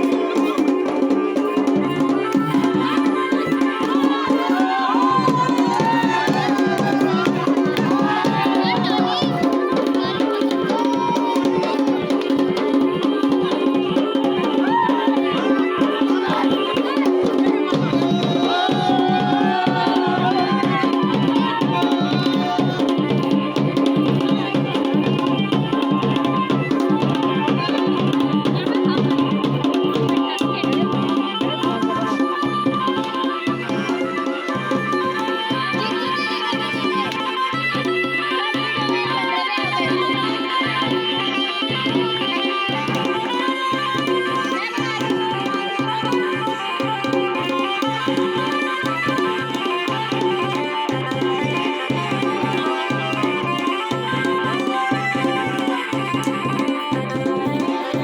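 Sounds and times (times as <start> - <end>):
folk drums in fast rhythm: 0.0 - 58.0.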